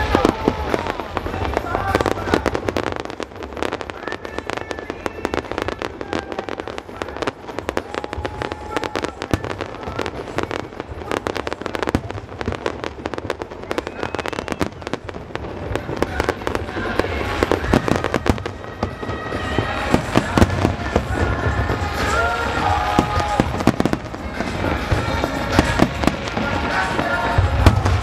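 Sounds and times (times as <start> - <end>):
fireworks crackling and popping: 0.0 - 28.0.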